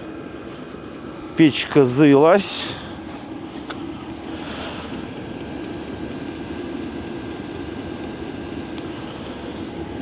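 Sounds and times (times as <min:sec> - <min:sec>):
heater blower whooshing drone: 0:00.0 - 0:10.0.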